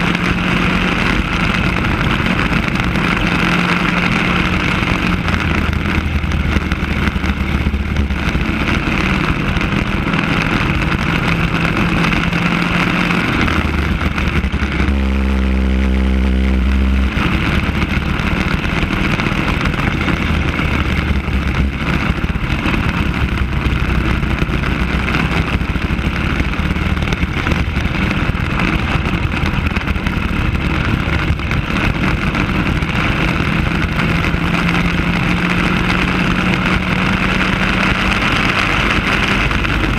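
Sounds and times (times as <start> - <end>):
go-kart engine running hard: 0.0 - 39.9
wind and road noise: 0.0 - 39.9.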